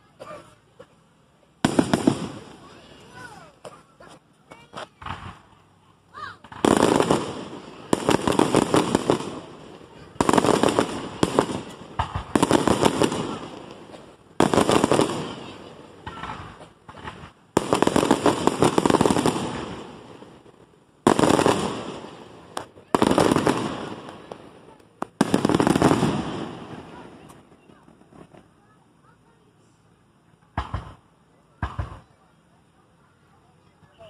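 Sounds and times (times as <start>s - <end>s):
fireworks bangs: 1.6s - 29.4s, 30.4s - 32.3s.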